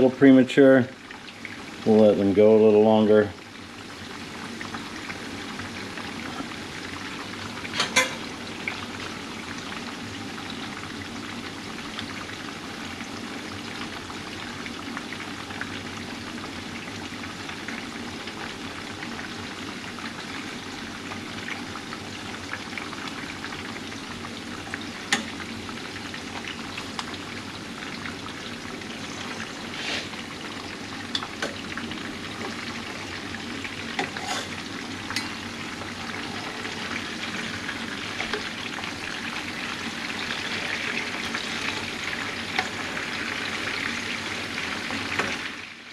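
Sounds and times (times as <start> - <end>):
fish frying in oil: 0.0 - 45.9.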